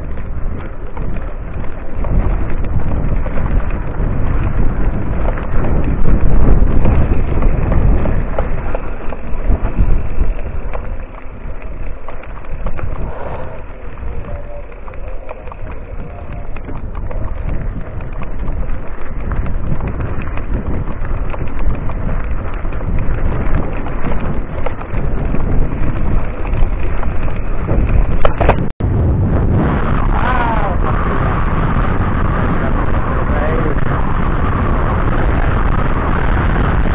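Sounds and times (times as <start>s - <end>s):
wind and trail noise: 0.0s - 36.9s.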